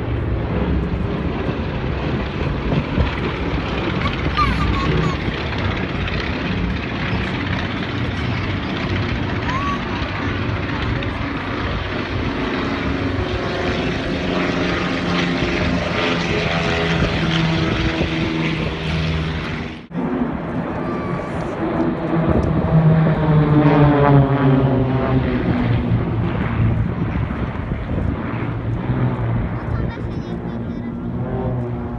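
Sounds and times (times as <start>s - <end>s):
propeller aircraft engines droning: 0.0s - 31.9s.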